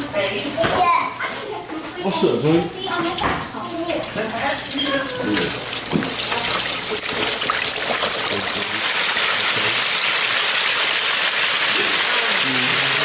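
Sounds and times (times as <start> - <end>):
oil sizzling in deep fryer: 0.0 - 13.0.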